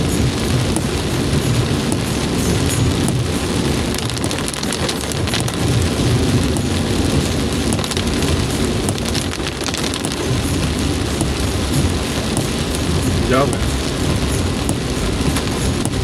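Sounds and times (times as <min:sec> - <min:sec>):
car rumbling on wet road: 0:00.0 - 0:16.0
heavy rain on car roof: 0:00.0 - 0:16.0.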